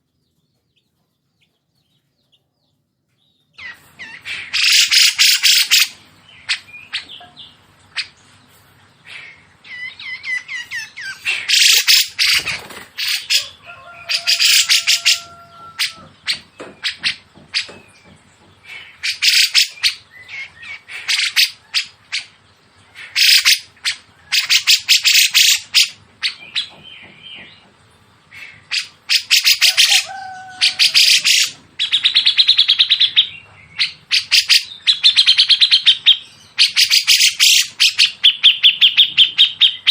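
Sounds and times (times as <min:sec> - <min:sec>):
songbird rattling calls: 0:03.6 - 0:08.2, 0:09.0 - 0:39.9.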